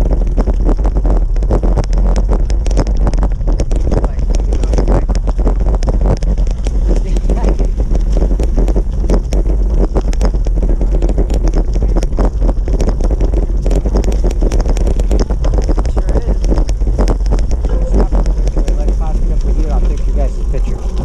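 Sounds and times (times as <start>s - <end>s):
bicycle rattling on gravel trail: 0.0s - 21.0s
wind buffeting microphone: 0.0s - 21.0s.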